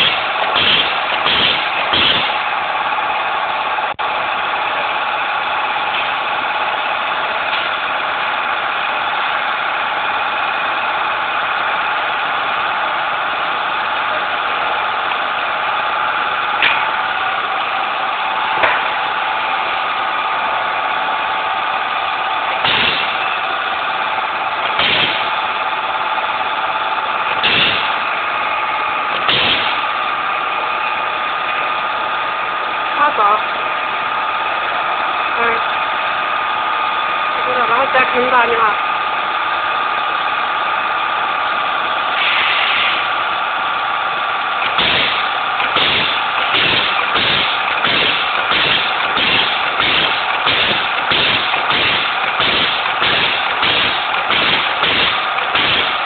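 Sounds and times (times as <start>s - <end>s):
machine motor hum: 0.0s - 56.0s.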